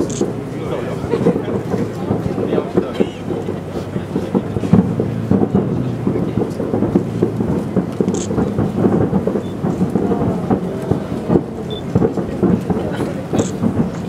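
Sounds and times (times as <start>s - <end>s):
distant fireworks booms and crackles: 0.0s - 14.0s.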